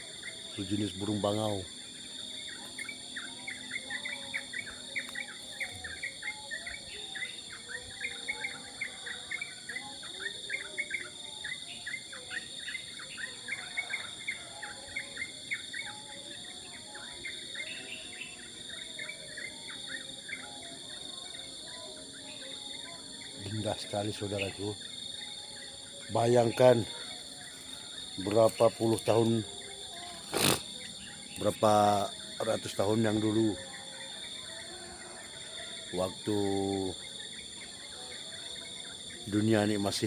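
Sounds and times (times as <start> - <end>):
birds chirping: 0.0 - 20.6, 21.4 - 40.0
insects droning: 0.0 - 40.0.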